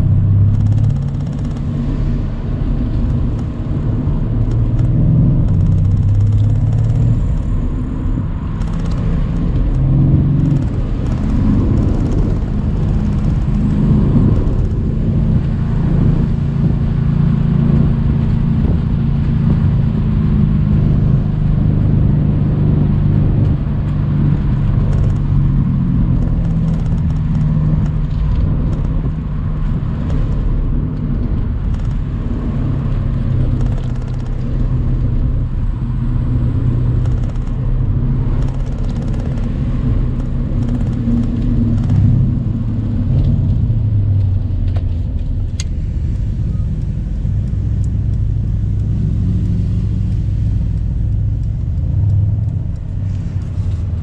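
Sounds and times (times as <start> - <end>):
car engine cruising: 0.0 - 54.0
wind noise: 0.0 - 54.0.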